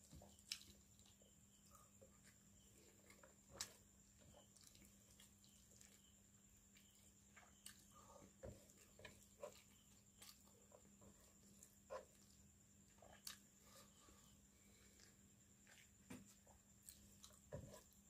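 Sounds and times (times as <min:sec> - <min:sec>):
faint hum: 0:00.0 - 0:18.0
hand mixing wet food: 0:00.0 - 0:18.0.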